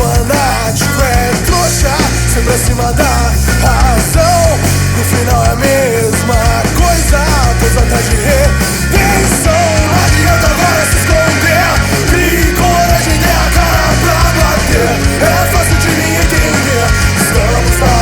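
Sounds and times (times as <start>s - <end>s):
loud punk rock music: 0.0s - 18.0s.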